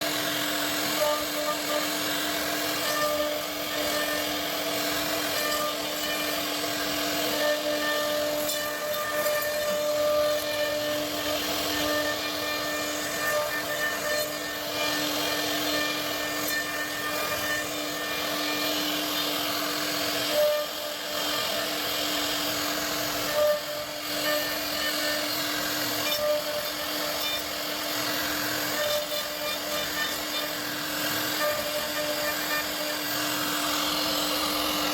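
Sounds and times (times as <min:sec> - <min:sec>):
wood router whining and cutting: 0:00.0 - 0:34.9.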